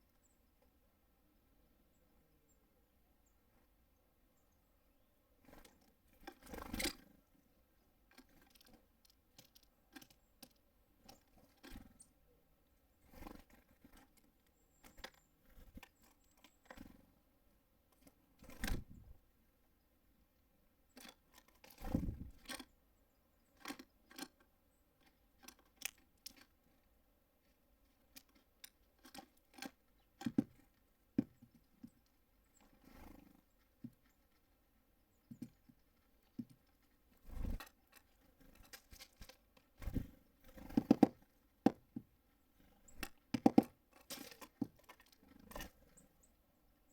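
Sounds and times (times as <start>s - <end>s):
birds pecking at feeder: 4.4s - 19.4s, 20.4s - 46.9s.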